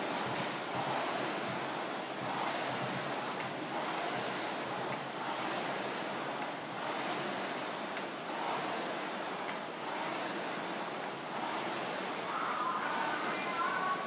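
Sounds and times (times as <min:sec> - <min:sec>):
rowing machine fan whooshing: 0:00.0 - 0:14.0.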